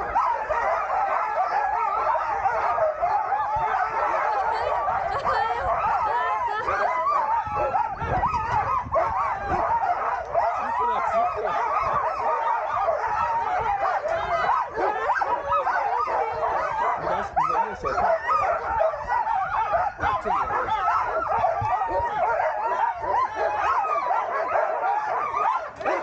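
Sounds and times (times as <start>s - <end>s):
dogs barking and howling: 0.0s - 26.0s.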